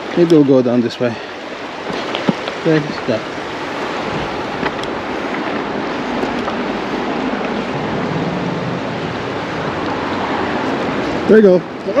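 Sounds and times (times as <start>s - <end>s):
creek water rushing: 0.0s - 12.0s
wind on microphone: 1.6s - 12.0s.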